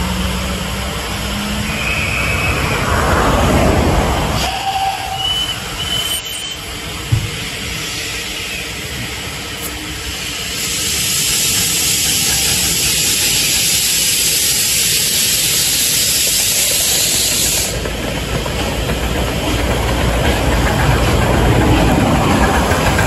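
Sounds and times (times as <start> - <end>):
steam locomotive hissing: 0.0 - 23.0
train rumbling along track: 0.0 - 23.0.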